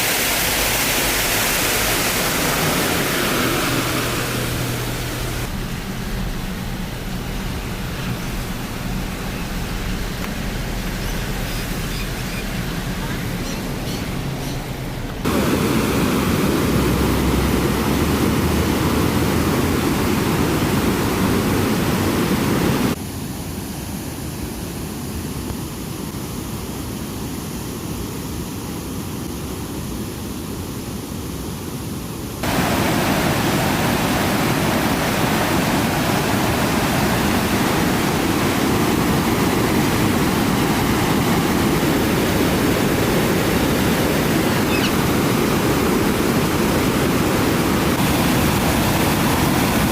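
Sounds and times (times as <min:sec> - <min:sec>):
water rushing over weir: 0:00.0 - 0:23.1, 0:32.4 - 0:49.9.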